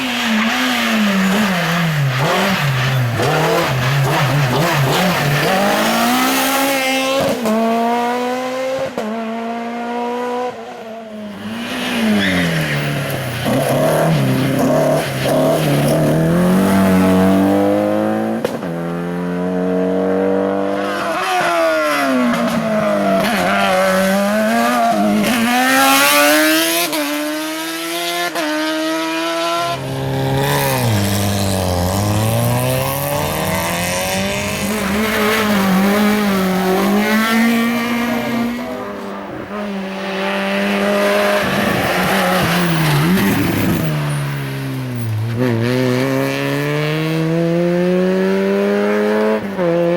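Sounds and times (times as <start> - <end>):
race car engine revving: 0.0 - 10.6, 11.3 - 49.9.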